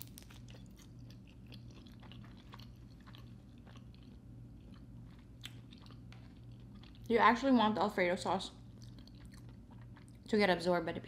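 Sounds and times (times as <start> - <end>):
faint chewing: 0.0 - 7.2, 8.6 - 10.4
low steady hum: 0.0 - 11.0.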